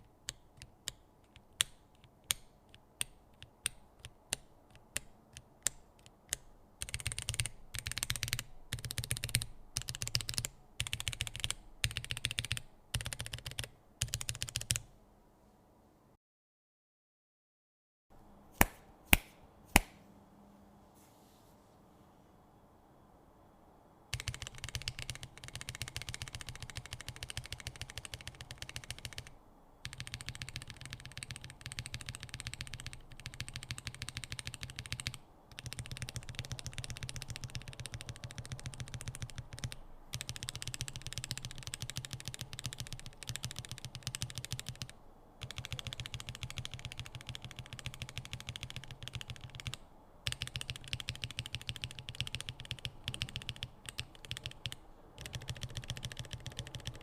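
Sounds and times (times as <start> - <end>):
mechanical keyboard typing: 0.2 - 14.9, 24.1 - 57.0.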